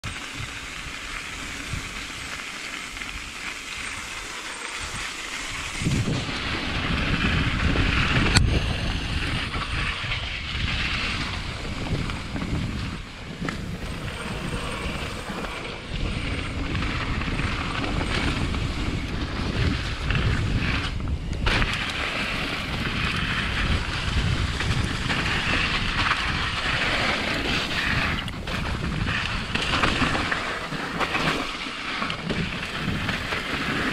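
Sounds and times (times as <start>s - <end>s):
bike rattling: 0.0s - 33.9s
tyres rolling over dirt: 0.1s - 33.9s
wind on microphone: 3.8s - 33.9s.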